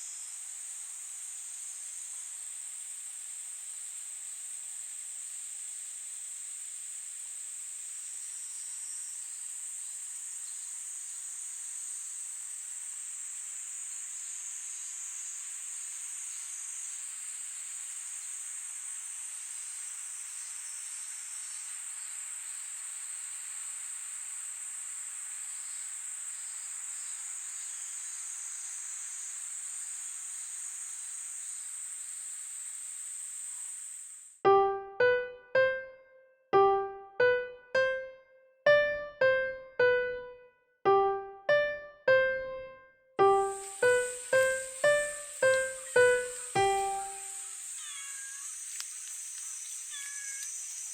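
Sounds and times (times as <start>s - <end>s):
insects chirring drone: 0.0s - 35.9s, 40.9s - 42.6s, 43.2s - 50.9s
faint insect calls: 0.0s - 50.9s.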